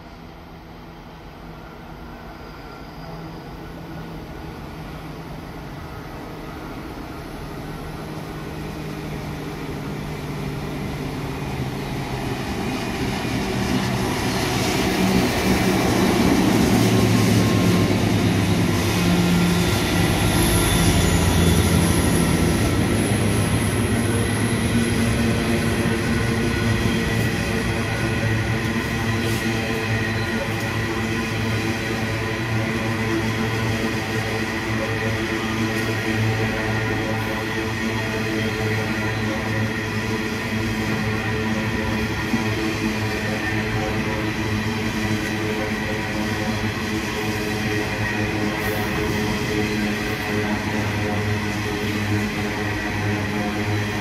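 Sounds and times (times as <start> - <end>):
diesel locomotive engine drone: 0.0 - 54.0
train wheels rumbling and clattering: 9.6 - 54.0.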